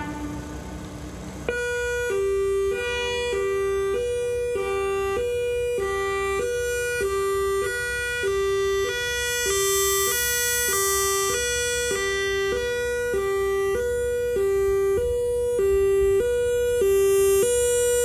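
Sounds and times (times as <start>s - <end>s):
hi-lo warning siren: 0.0s - 18.0s.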